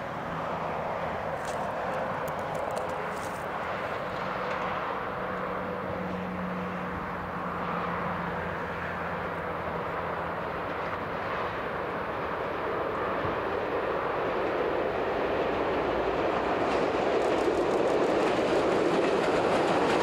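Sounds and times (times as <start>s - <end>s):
distant motorway traffic: 0.0s - 20.0s
train rumbling: 0.0s - 20.0s.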